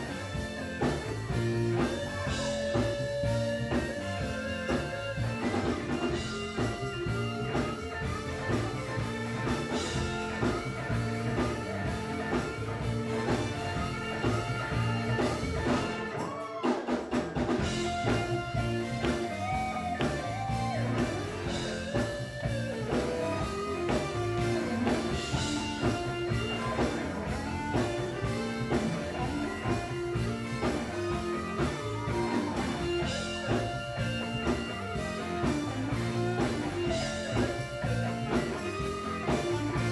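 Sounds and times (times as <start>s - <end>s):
electric guitar playing: 0.0s - 39.9s
gospel band music: 0.0s - 39.9s.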